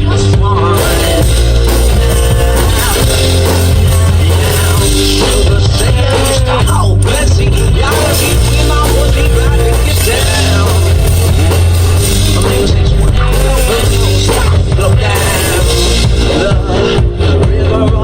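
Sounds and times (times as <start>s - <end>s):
deep bass line: 0.0s - 18.0s
drum beat: 0.0s - 18.0s
live rock music: 0.0s - 18.0s.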